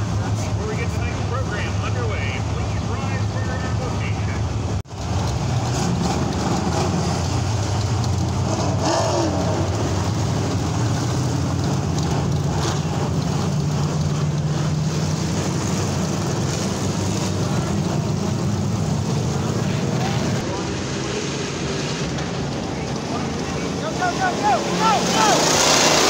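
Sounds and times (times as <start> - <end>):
race car engines droning: 0.0 - 26.0.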